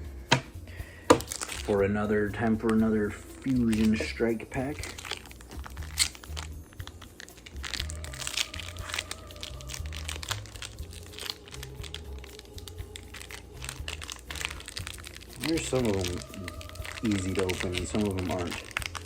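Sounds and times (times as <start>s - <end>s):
soft background music: 0.0s - 19.0s
foil wrapper crinkling and tearing: 1.1s - 19.0s.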